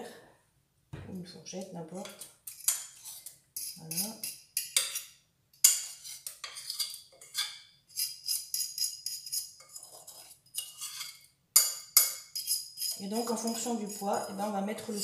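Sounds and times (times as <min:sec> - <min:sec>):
metal utensil scraping a bowl: 0:01.6 - 0:15.0.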